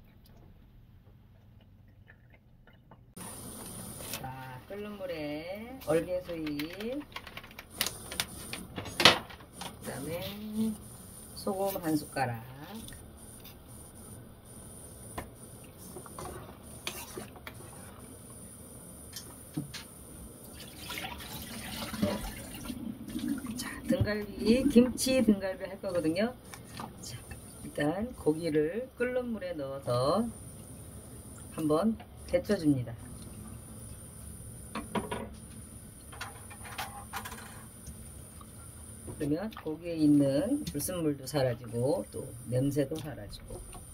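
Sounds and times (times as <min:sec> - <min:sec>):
water boiling in a pot: 0:03.2 - 0:43.9
low steady hiss: 0:07.8 - 0:43.9.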